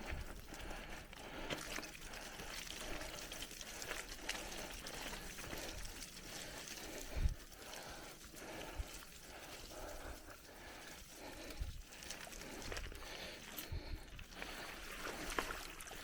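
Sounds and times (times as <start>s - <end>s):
bike clicks and rattles: 0.0s - 16.0s
bike tyres crunching on gravel: 0.0s - 16.0s.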